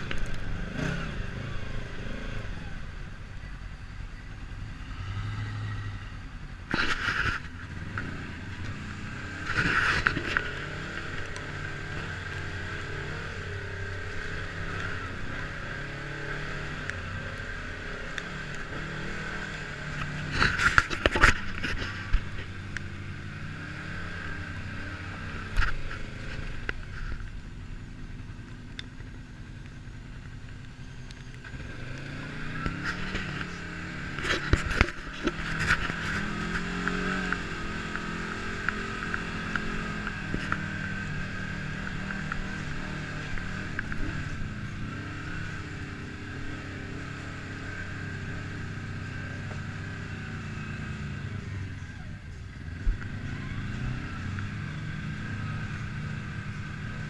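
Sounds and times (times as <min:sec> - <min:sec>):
utility vehicle engine running: 0:00.0 - 0:57.0.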